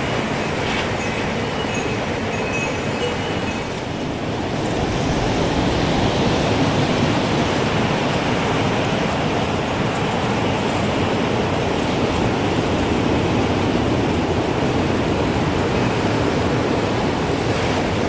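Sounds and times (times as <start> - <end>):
strong wind blowing: 0.0 - 18.0.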